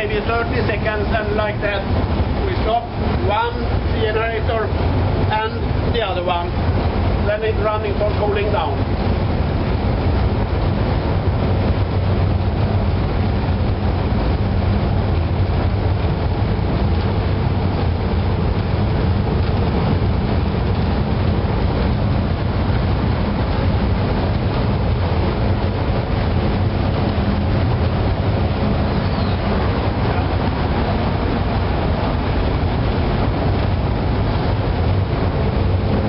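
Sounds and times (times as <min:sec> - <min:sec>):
diesel engine room drone: 0:00.0 - 0:36.0.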